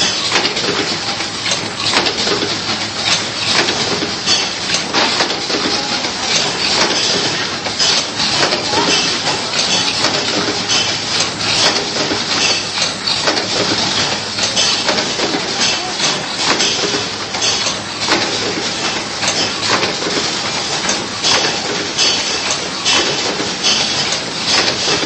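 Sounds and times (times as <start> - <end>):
machine mechanical clatter: 0.0 - 25.0
sharp clicks and knocks: 0.0 - 25.0.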